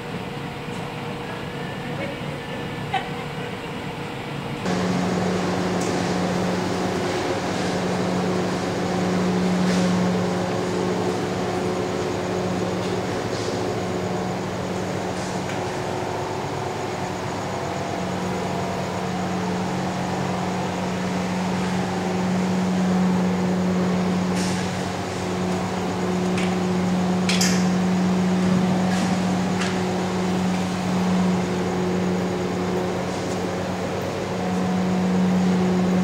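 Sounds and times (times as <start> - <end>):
machinery humming: 0.0 - 36.0.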